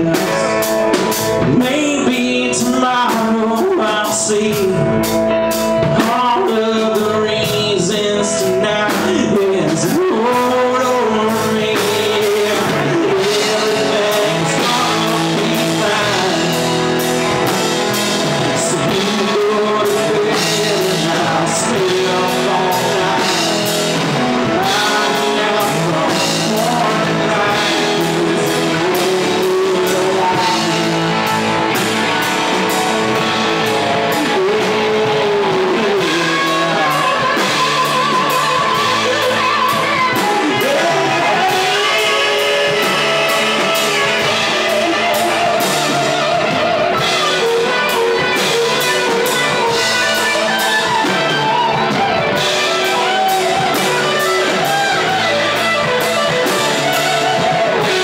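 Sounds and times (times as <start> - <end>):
man singing lead: 0.0 - 58.0
rock band playing live: 0.0 - 58.0.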